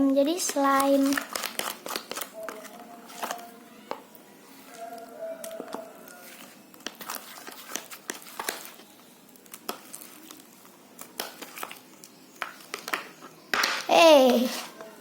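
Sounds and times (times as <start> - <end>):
sticky slime crackling and squelching: 0.0 - 15.0.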